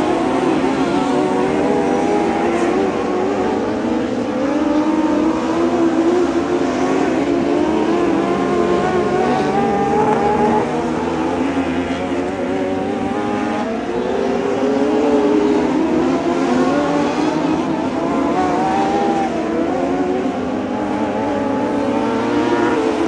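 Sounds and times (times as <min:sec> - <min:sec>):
small race car engines revving: 0:00.0 - 0:23.0.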